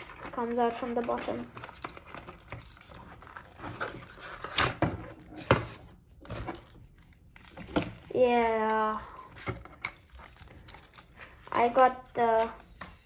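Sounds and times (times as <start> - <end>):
box rustling and crackling: 0.0 - 13.0.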